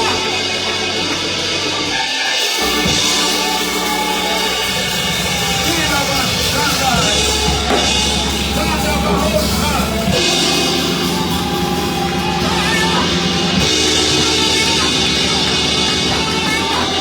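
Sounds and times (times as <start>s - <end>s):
drum kit: 0.0s - 17.0s
live band playing held chords: 0.0s - 17.0s.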